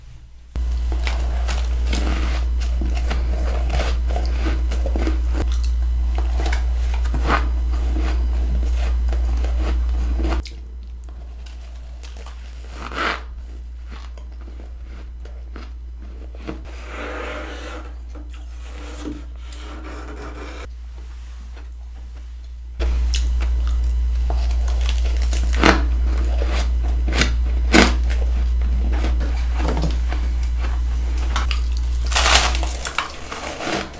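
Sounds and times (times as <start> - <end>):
steady low hum: 0.2 - 33.9
chewing crunchy frost: 0.6 - 16.8, 22.8 - 33.9.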